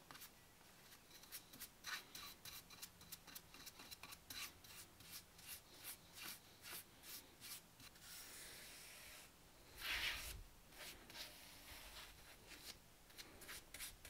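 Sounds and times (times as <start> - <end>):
paintbrush stroking wood: 0.1 - 14.0.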